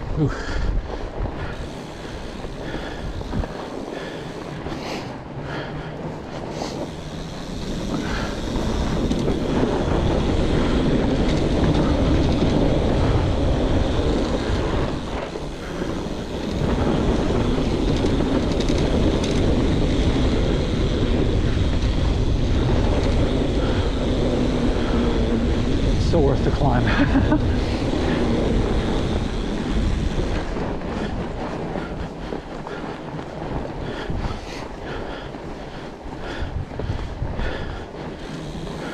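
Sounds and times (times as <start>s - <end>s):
bike tyres rumbling on trail: 0.0s - 38.9s
wind on microphone: 0.0s - 38.9s.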